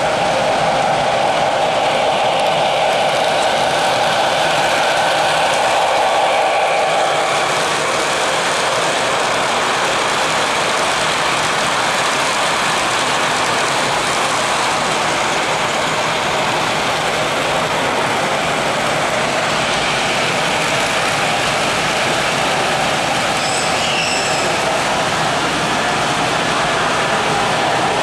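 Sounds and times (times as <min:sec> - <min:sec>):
model train wheels rattling on track: 0:00.4 - 0:28.0.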